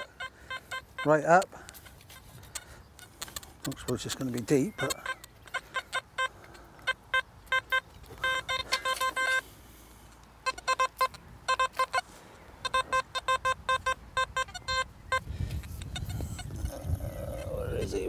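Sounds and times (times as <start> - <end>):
metal detector beeping: 0.0 - 9.6, 10.4 - 16.6.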